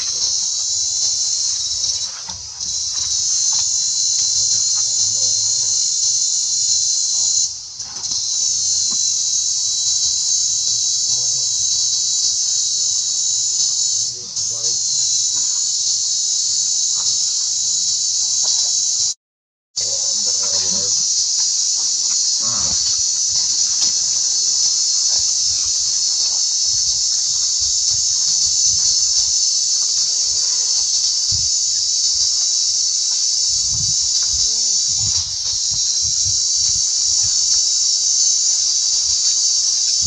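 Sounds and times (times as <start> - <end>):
insect chorus buzzing: 0.0 - 19.2, 19.8 - 40.0.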